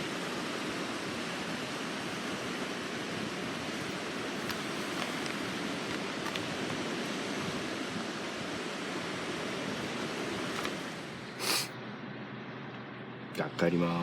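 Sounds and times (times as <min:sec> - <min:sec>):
sea surf on shore: 0:00.0 - 0:11.7.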